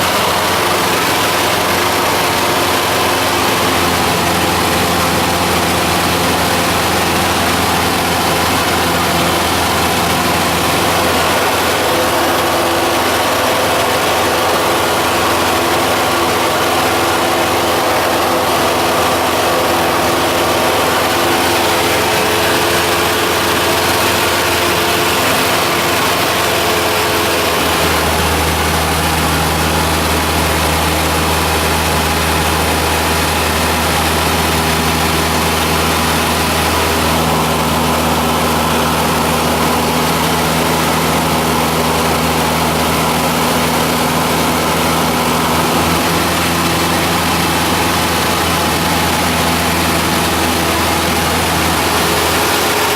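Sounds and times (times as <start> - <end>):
deeper hum: 0.0 - 52.9
propeller plane engine droning: 0.0 - 52.9.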